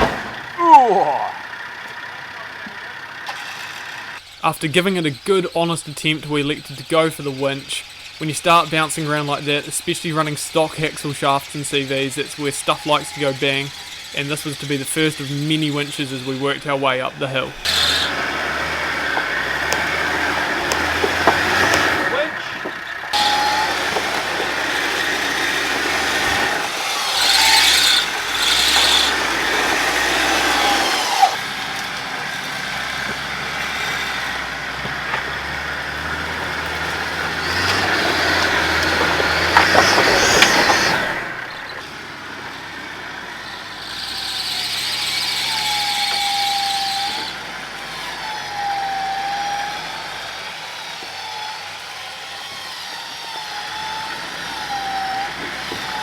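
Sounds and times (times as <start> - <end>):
electric winch motor whining: 0.0 - 56.0
vehicle engine running: 0.0 - 56.0.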